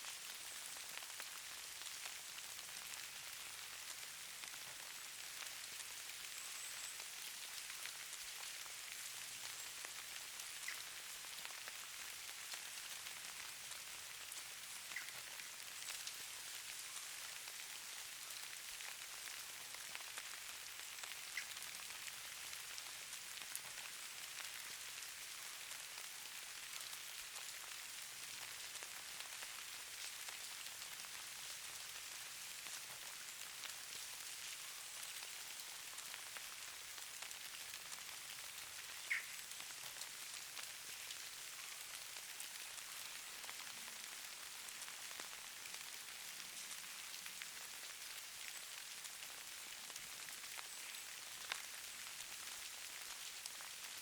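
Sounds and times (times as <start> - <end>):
light rain patter: 0.0 - 54.0.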